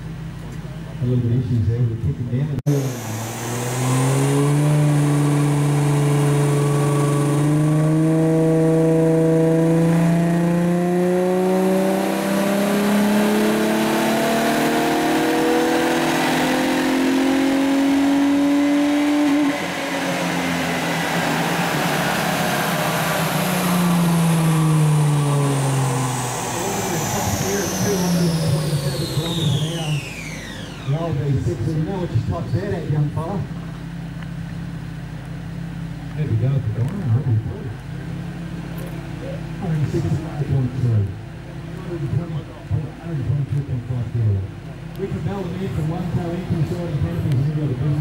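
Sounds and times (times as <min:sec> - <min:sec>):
car engine revving at full throttle: 0:02.2 - 0:48.0.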